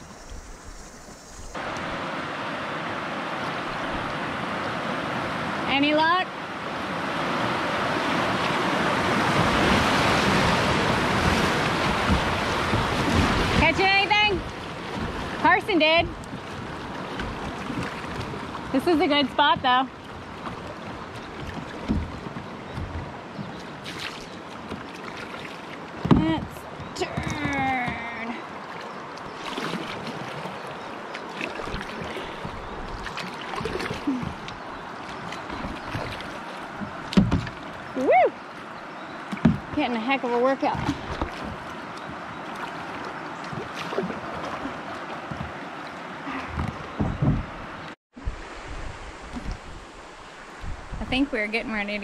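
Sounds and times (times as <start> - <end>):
wind rumbling on microphone: 0.0 - 24.8, 29.2 - 52.0
river water rushing: 0.0 - 52.0.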